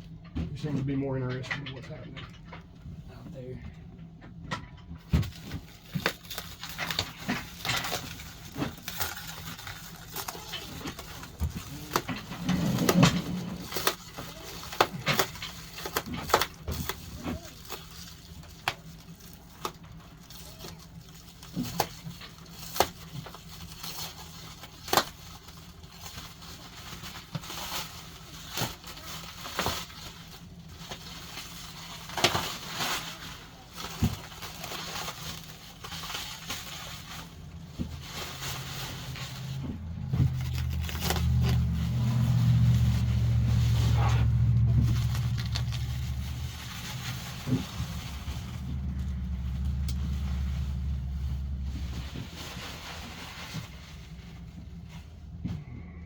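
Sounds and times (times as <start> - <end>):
plastic wrapping crackling and tearing: 5.0 - 55.4.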